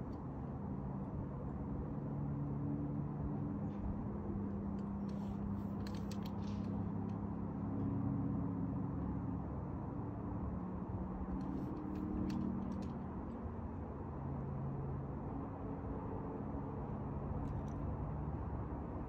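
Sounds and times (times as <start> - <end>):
faint engine hum: 0.0 - 19.0.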